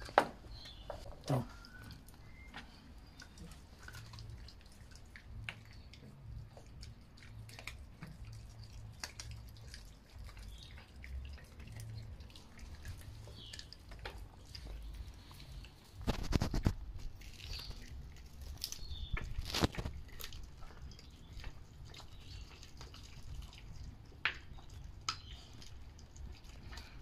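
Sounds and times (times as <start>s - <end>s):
dogs chewing bones: 0.0s - 27.0s.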